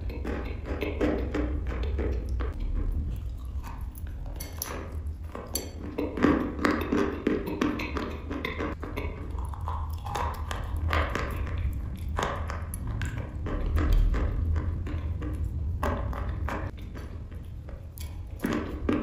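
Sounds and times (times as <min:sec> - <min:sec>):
crunching and chewing chalk: 0:00.0 - 0:19.0
steady low hum: 0:00.0 - 0:19.0.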